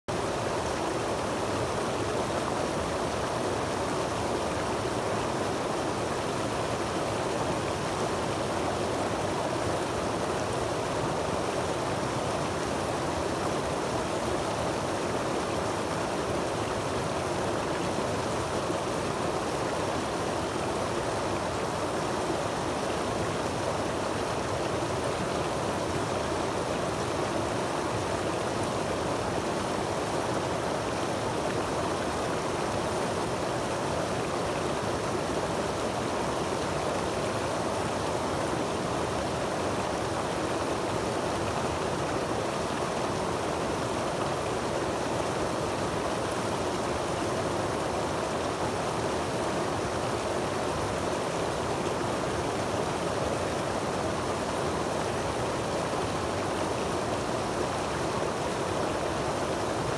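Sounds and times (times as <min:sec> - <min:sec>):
water rushing over rocks: 0:00.1 - 0:59.9.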